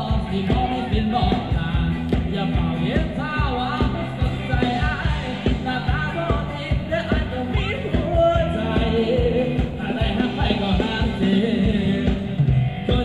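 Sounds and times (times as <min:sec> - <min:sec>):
live band dance music: 0:00.0 - 0:13.0
person singing: 0:00.0 - 0:13.0.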